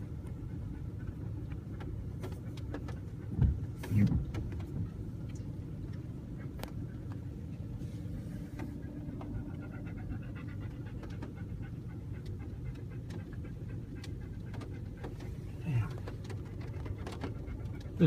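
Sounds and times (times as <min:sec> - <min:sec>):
dog panting: 0:00.0 - 0:03.8, 0:06.2 - 0:18.0
car rumble: 0:00.0 - 0:18.0.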